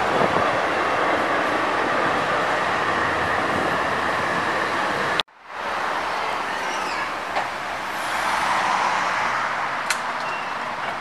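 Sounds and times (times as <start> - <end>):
tram rumbling past: 0.0 - 11.0.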